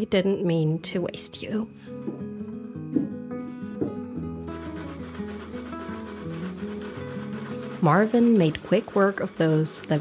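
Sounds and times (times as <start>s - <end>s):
plucked acoustic guitar: 1.9s - 10.0s.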